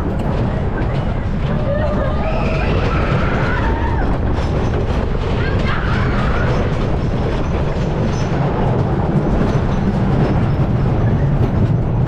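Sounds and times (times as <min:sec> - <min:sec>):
roller coaster train rumbling: 0:00.0 - 0:12.0
wheels clattering on wooden track: 0:00.0 - 0:12.0.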